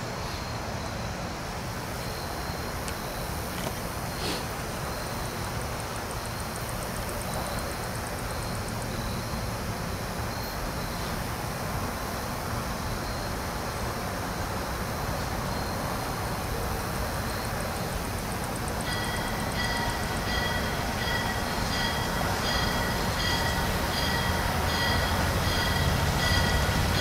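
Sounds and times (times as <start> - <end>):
approaching train rumble: 0.0 - 27.0.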